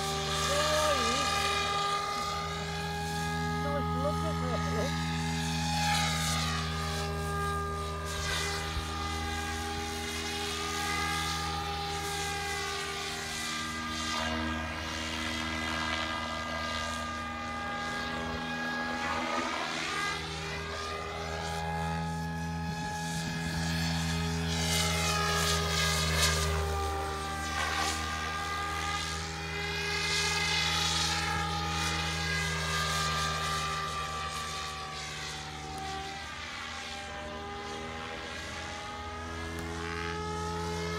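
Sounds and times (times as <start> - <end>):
model helicopter rotor whine: 0.0 - 40.9.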